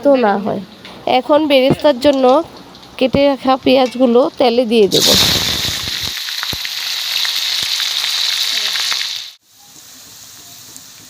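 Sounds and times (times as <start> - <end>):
onions sizzling in hot oil: 0.1 - 11.0.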